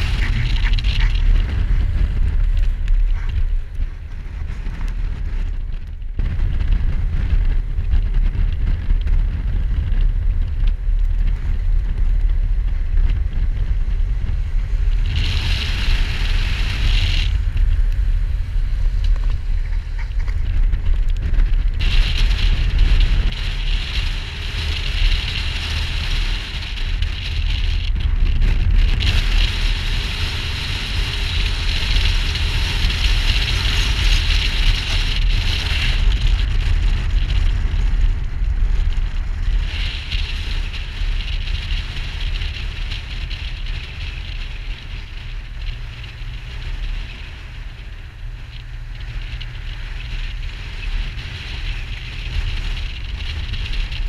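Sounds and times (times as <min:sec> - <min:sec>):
motorcycle running: 0:00.0 - 0:54.0
wind buffeting microphone: 0:00.0 - 0:54.0.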